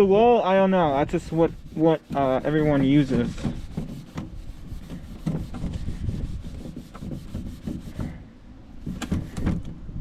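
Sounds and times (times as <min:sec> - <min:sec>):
steel wool scrubbing wood: 0:00.2 - 0:08.2.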